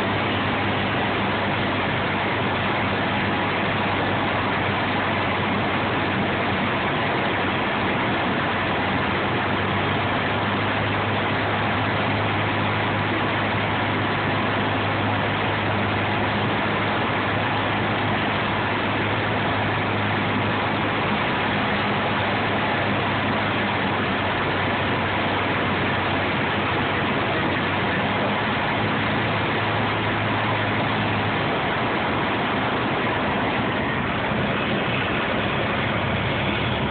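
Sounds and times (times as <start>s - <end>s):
aircraft engine and propeller hum: 0.0s - 36.9s.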